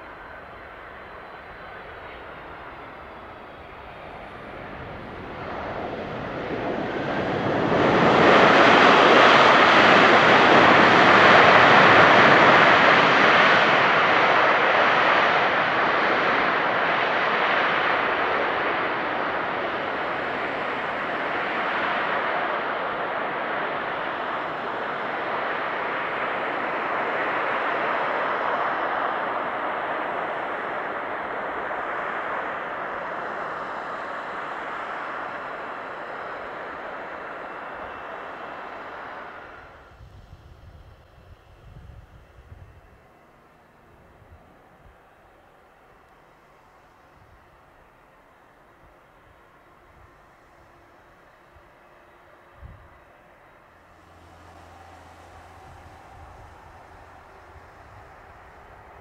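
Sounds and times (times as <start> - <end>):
jet engines in reverse thrust: 0.0 - 59.0.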